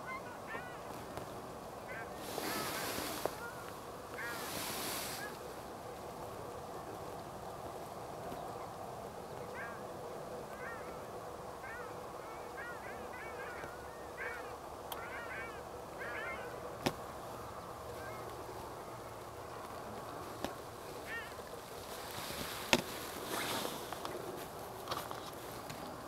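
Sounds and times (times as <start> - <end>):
shelducks calling: 0.0 - 6.9, 8.3 - 23.5.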